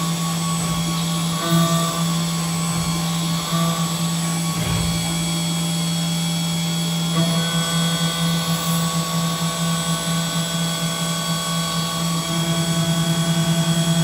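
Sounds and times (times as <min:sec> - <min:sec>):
milling machine whine: 0:00.0 - 0:14.0.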